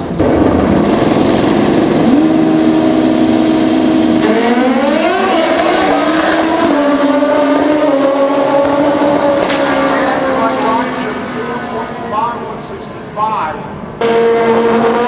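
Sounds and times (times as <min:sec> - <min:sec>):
loud motorcycle engines: 0:00.0 - 0:15.0.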